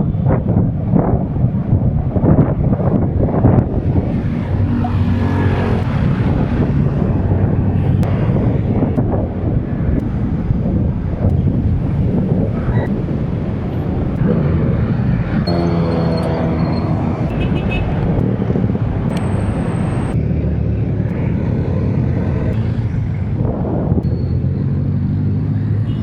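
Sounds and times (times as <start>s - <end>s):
road traffic rumble: 0.0s - 26.0s
passing vehicle engine hum: 1.0s - 26.0s
high whine: 2.4s - 24.9s.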